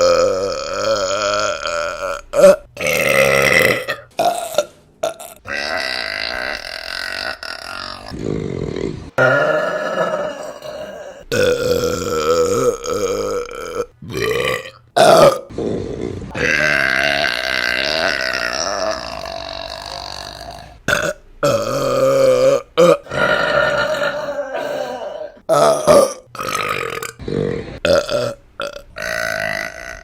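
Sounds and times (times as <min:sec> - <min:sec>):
women burping loudly: 0:00.0 - 0:30.0.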